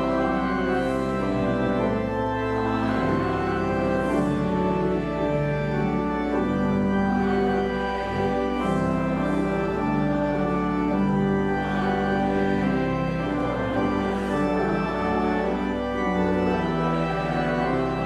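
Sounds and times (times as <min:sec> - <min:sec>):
church organ playing chords: 0:00.0 - 0:18.0.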